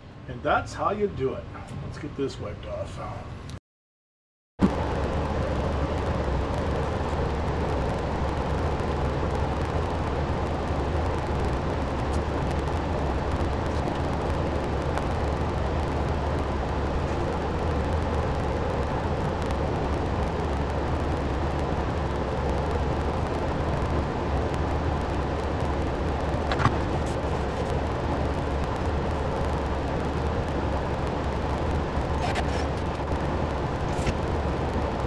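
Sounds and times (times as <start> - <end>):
machinery humming with hiss: 4.6 - 35.0.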